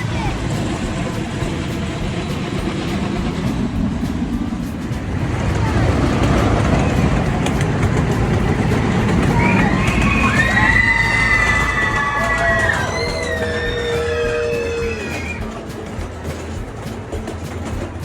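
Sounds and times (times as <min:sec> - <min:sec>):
children's voices: 0:00.0 - 0:18.0
ride train rumbling on track: 0:00.0 - 0:18.0.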